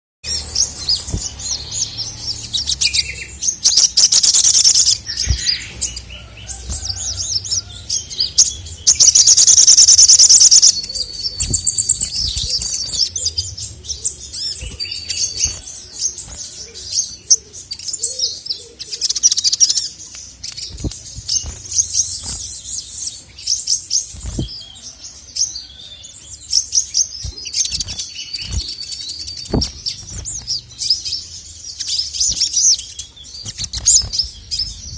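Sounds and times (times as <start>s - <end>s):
sunbird chirps and trills: 0.2s - 34.9s.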